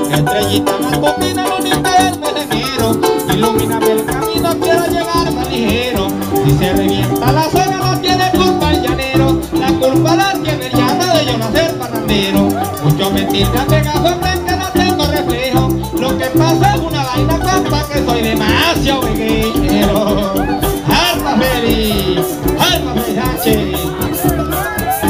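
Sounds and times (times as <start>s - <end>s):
electric bass: 0.0s - 25.0s
harp playing: 0.0s - 25.0s
maracas shaking: 0.0s - 25.0s.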